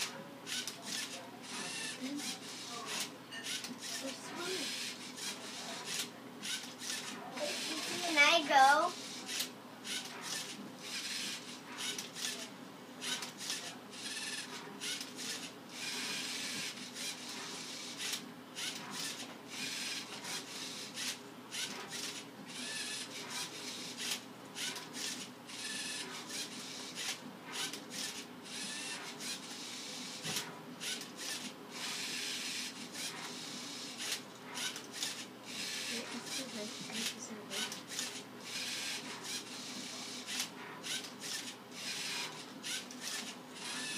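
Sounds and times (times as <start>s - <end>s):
robot motors whirring: 0.0s - 43.9s.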